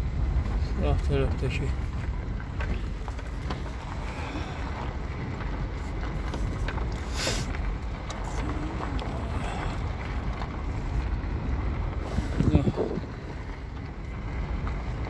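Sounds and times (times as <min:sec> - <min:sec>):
gravel clicks: 0:00.0 - 0:15.0
tyres rumbling on gravel: 0:00.0 - 0:15.0
wind noise: 0:00.0 - 0:15.0.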